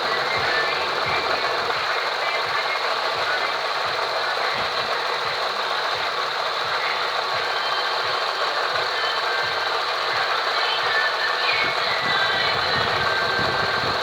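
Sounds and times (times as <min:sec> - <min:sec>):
car engine running: 0:00.0 - 0:14.0
high-pitched whine: 0:00.0 - 0:14.0.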